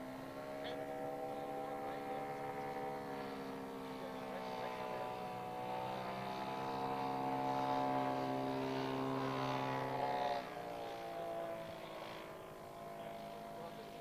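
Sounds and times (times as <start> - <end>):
model plane engine buzzing: 0.0 - 14.0.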